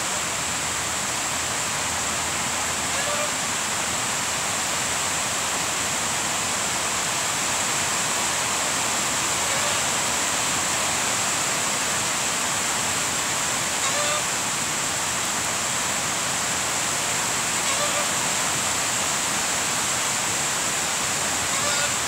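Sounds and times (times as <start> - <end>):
rain on trees and grass: 0.0 - 22.0.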